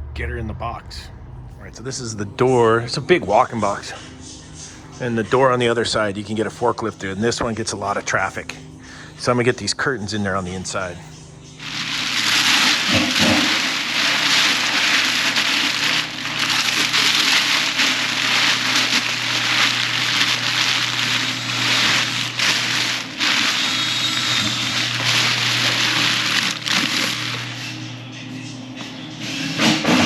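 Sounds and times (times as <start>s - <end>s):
low hum: 0.0s - 5.9s, 10.7s - 29.4s
fans blowing air: 0.2s - 30.0s.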